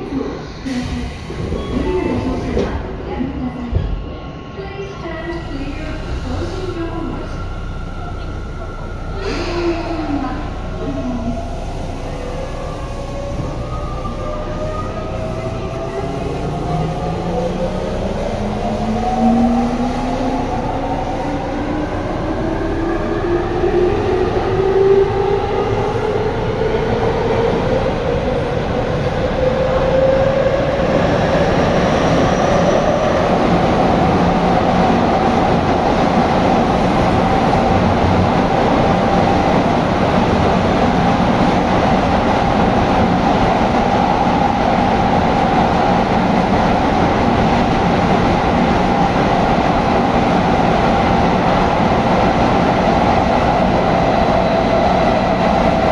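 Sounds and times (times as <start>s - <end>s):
train rolling noise: 0.0s - 55.9s.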